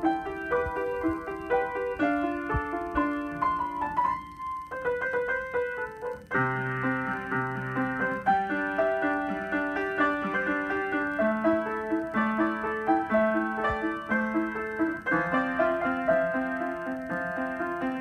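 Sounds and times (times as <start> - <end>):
upright piano playing: 0.0 - 18.0.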